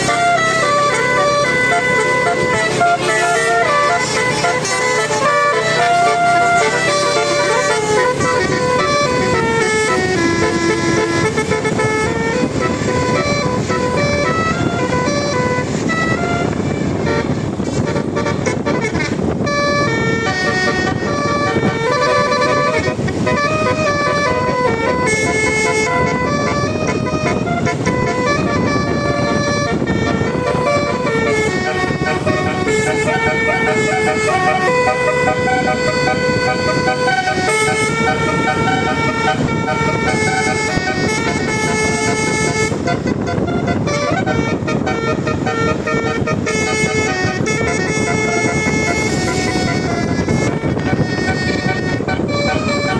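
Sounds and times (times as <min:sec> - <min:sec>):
bus multi-tone horn tune: 0:00.0 - 0:52.9.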